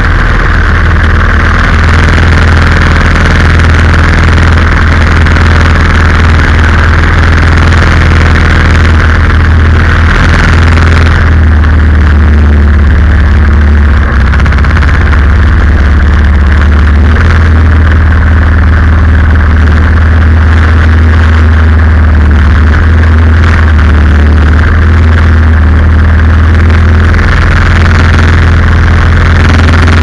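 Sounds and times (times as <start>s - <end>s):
boat engine running loudly: 0.0s - 30.0s.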